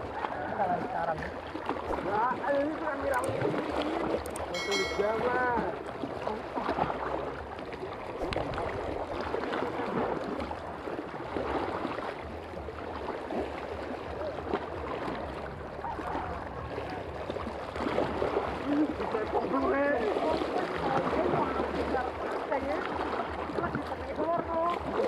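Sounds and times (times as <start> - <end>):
sea water gurgling over rocks: 0.0 - 25.0
small splashes: 0.0 - 25.0.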